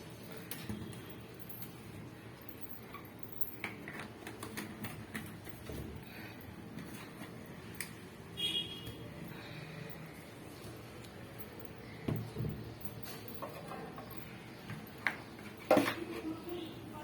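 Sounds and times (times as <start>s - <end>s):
household items clicking and knocking: 0.2s - 8.0s, 10.5s - 16.6s.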